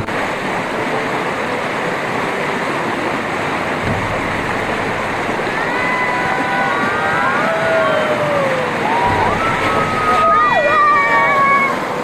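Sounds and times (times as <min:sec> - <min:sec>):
river water rushing through rapids: 0:00.0 - 0:12.0.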